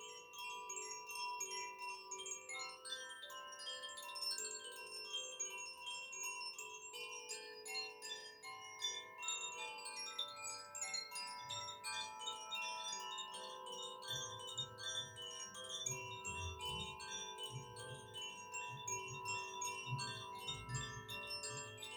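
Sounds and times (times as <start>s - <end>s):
wind chimes tinkling: 0.0s - 21.9s.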